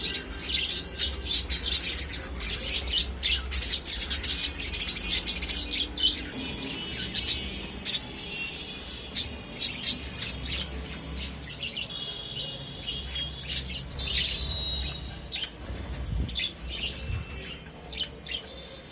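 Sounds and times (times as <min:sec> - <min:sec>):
budgerigars chirping: 0:00.0 - 0:18.9.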